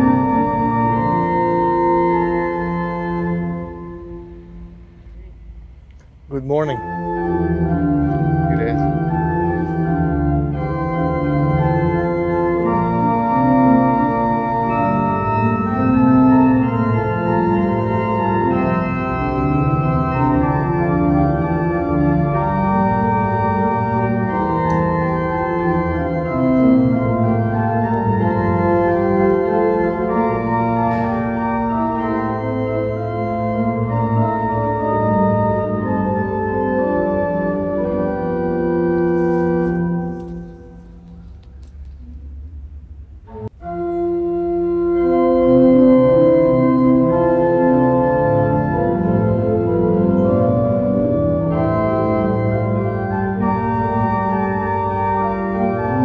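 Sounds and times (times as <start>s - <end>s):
organ playing slow chords: 0.0s - 56.0s.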